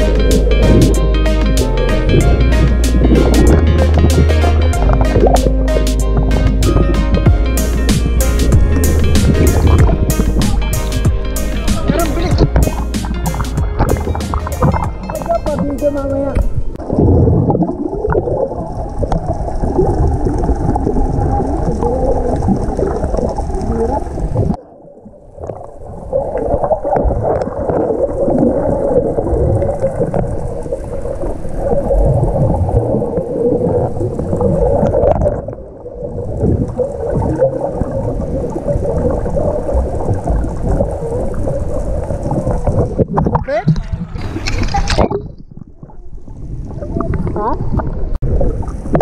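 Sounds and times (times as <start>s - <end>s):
bubbling and gurgling: 0.0s - 49.0s
underwater rumble: 0.0s - 49.0s.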